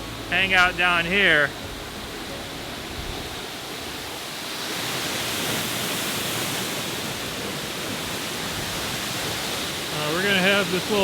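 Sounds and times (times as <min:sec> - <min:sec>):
waterfall and river rushing: 0:00.0 - 0:11.0.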